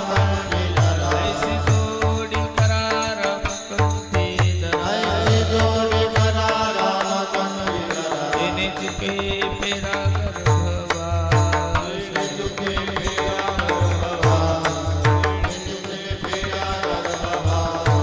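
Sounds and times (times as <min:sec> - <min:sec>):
sharp percussive strikes: 0:00.0 - 0:18.0.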